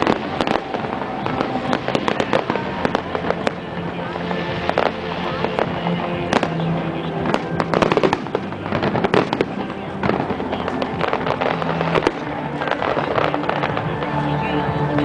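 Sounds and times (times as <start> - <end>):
fireworks bursting and crackling: 0.0 - 15.0
music playing: 0.0 - 15.0.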